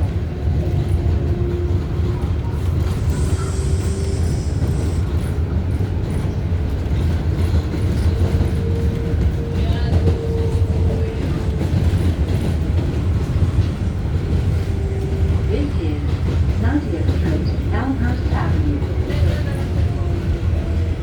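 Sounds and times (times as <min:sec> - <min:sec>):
subway wheels rumbling on rails: 0:00.0 - 0:21.0.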